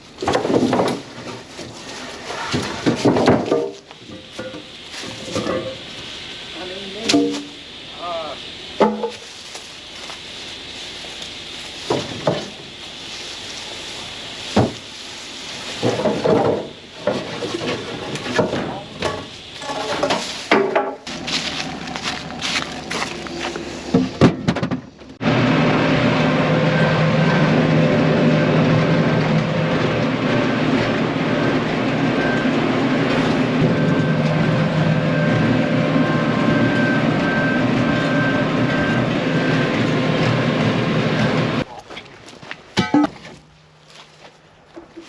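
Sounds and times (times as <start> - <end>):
loud steady machine drone: 0.0 - 41.8.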